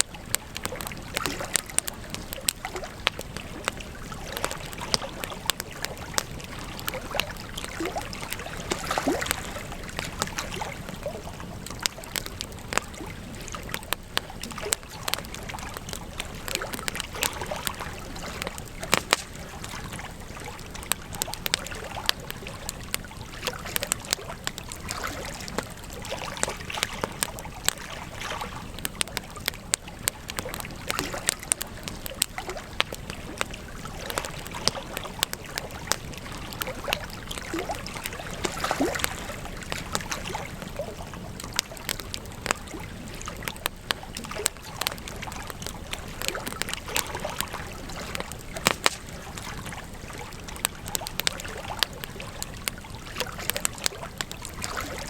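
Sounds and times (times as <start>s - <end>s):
campfire pops: 0.0s - 55.0s
hiss and rumble of burning: 0.0s - 55.0s.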